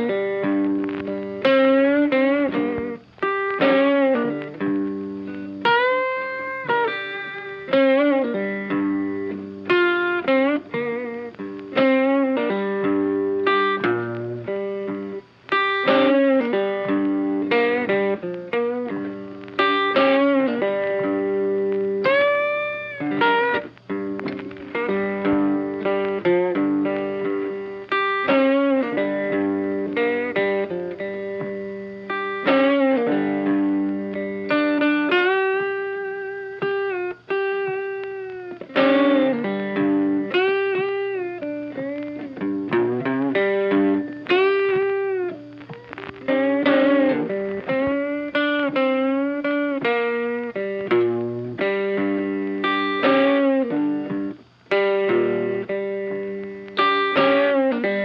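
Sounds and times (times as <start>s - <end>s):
plucked guitar melody: 0.0s - 58.0s.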